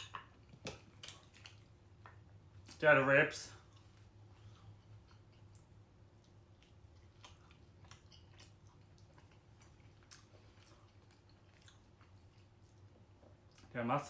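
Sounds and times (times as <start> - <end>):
low steady hum: 0.0 - 14.0
soft chewing: 0.0 - 14.0.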